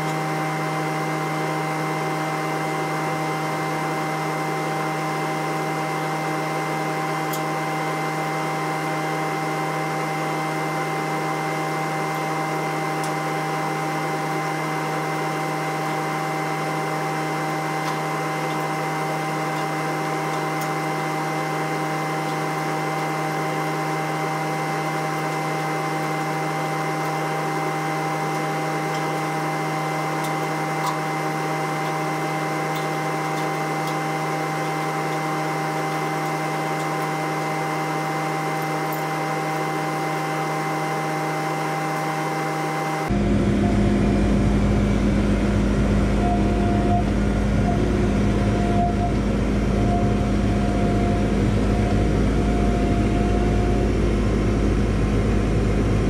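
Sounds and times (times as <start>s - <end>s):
skid steer engine droning: 0.0s - 56.0s.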